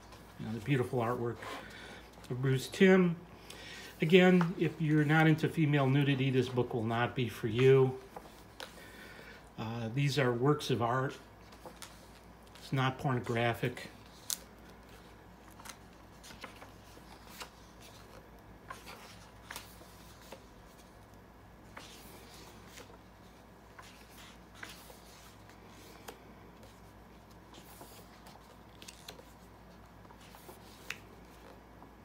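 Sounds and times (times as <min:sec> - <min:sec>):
book pages turning: 0:03.4 - 0:09.1, 0:11.1 - 0:32.0.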